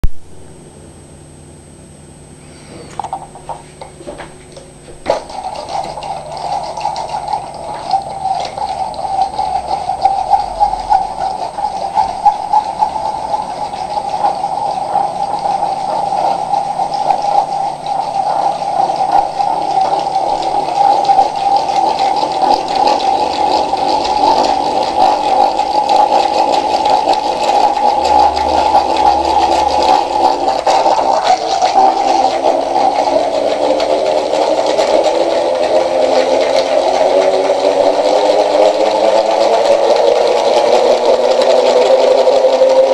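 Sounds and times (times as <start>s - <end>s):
gyroscope rotor whirring and clattering: 5.0s - 42.9s.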